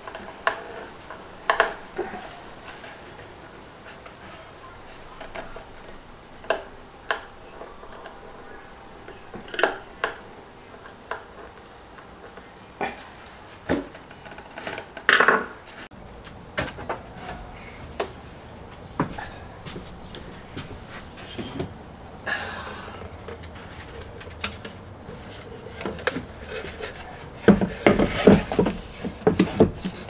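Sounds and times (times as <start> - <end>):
objects clattering: 0.0 - 30.0.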